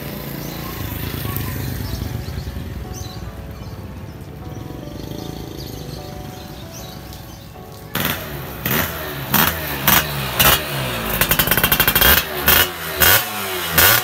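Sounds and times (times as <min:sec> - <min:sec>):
moped engine revving: 0:00.0 - 0:06.5, 0:07.9 - 0:14.0.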